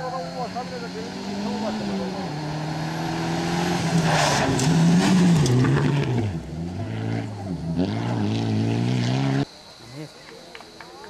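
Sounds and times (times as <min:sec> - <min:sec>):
rally car engine revving: 0:00.0 - 0:09.5.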